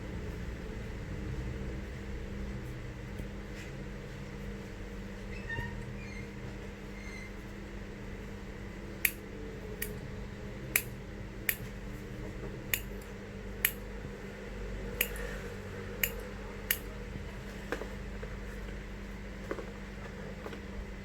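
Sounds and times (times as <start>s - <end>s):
steady low hum: 0.0s - 5.4s, 6.0s - 21.0s.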